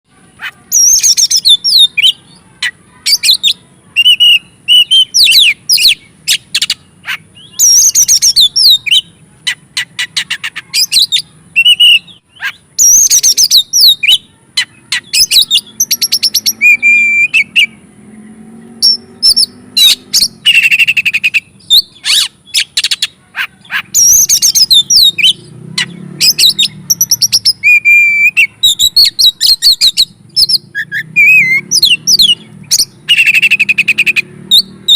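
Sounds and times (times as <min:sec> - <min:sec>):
songbird singing fast varied song: 0:00.4 - 0:34.9.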